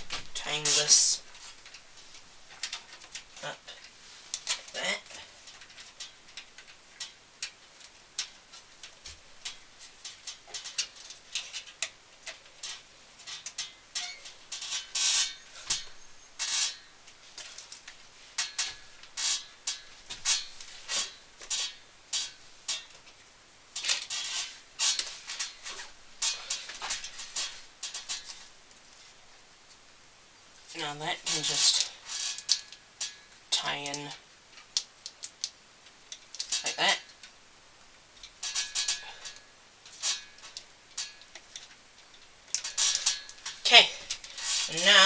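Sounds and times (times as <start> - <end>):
cables rustling and scraping: 0.0 - 37.4, 38.1 - 45.0.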